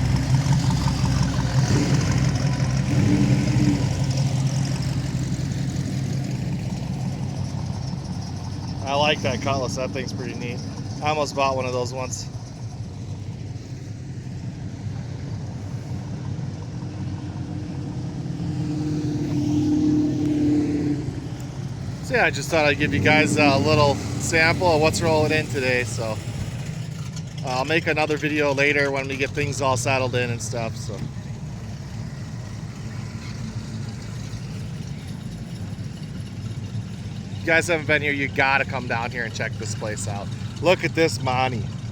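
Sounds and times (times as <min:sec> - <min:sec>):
car engines rolling past: 0:00.0 - 0:41.9.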